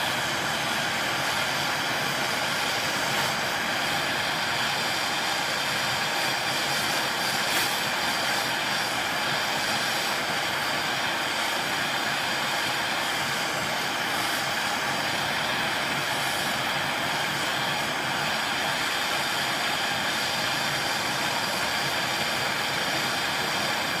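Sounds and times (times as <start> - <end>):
gas torch flame hissing: 0.0 - 24.0.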